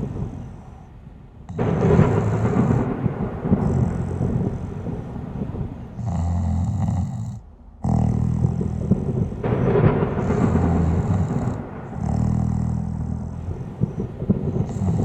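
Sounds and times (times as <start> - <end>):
person snoring: 0.0 - 0.9, 1.5 - 5.2, 5.8 - 15.0.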